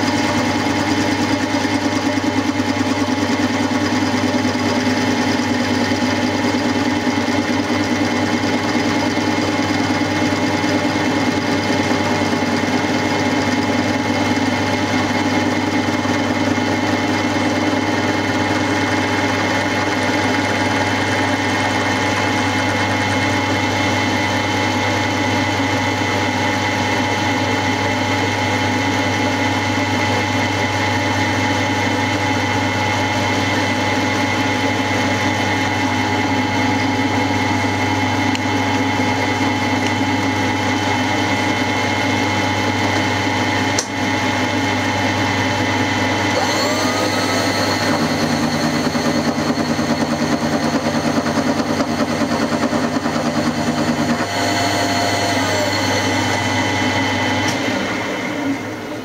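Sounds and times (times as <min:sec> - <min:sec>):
milling machine hum and whine: 0:00.0 - 0:59.0.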